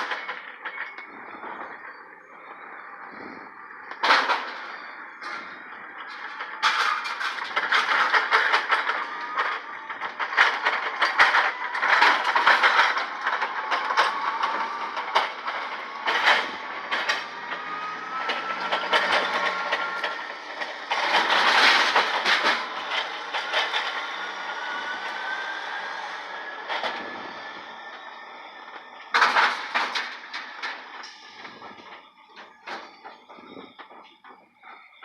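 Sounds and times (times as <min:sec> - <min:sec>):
faint mechanical whine: 0:00.0 - 0:35.0.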